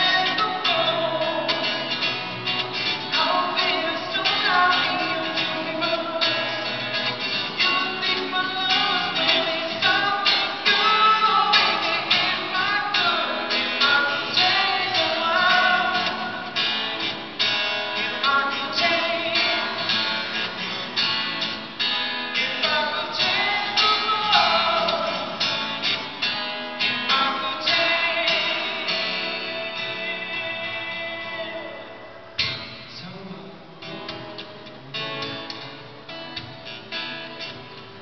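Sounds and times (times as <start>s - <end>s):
man singing: 0.0s - 20.8s, 22.3s - 25.9s, 26.8s - 35.7s
acoustic guitar strumming: 0.0s - 38.0s.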